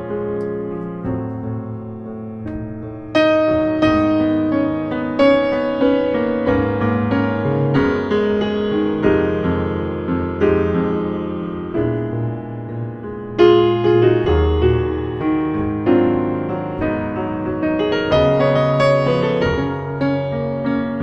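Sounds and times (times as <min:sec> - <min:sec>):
jazz piano ballad: 0:00.0 - 0:21.0.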